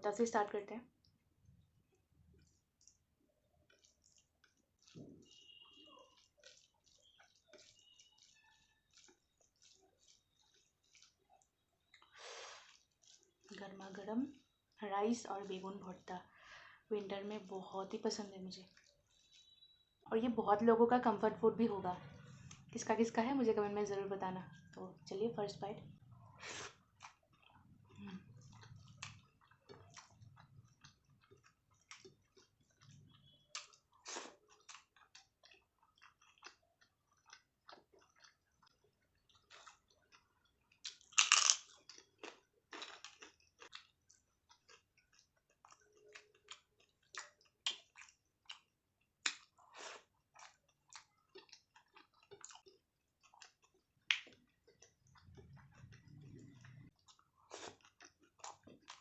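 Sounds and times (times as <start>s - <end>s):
person chewing food: 1.0s - 15.6s, 18.2s - 20.0s, 22.0s - 22.8s, 25.8s - 59.0s.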